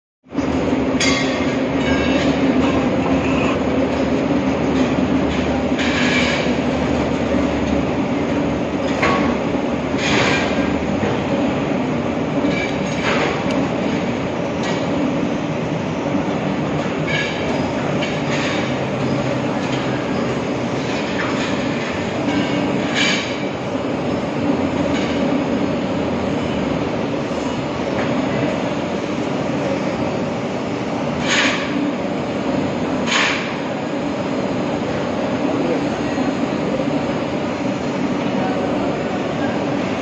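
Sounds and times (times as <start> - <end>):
mechanical rumble with low hum: 0.3 - 38.0.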